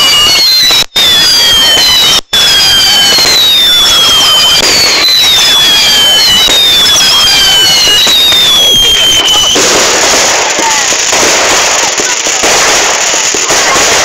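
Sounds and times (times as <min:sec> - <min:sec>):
firework whistles falling in pitch: 0:00.0 - 0:14.0
fireworks crackling: 0:00.0 - 0:14.0.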